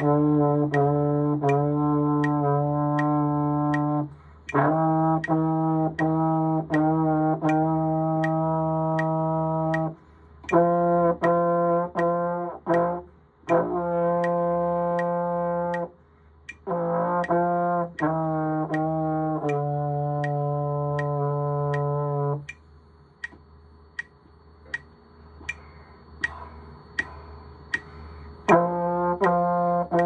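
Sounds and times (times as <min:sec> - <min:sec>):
trombone playing sustained notes: 0:00.0 - 0:22.6, 0:27.9 - 0:30.0
metronome ticking: 0:00.0 - 0:30.0.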